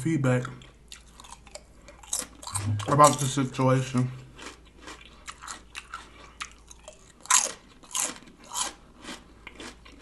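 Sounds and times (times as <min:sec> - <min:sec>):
person chewing crunchy food: 0:00.3 - 0:10.0.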